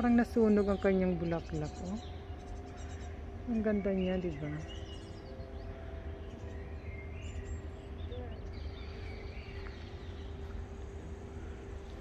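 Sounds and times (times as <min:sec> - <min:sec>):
faint bird chirps: 0:00.0 - 0:12.0
low outdoor rumble: 0:00.0 - 0:12.0.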